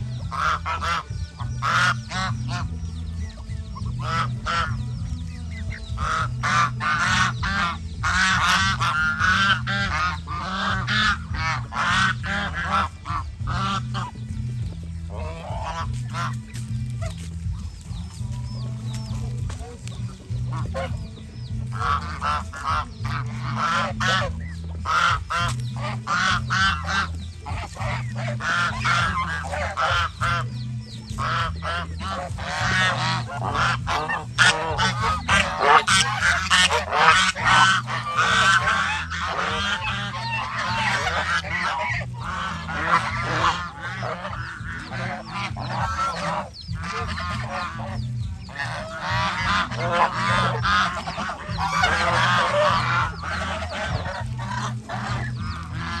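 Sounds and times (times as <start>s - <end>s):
geese honking: 0.0s - 56.0s
steady low hum: 0.0s - 56.0s.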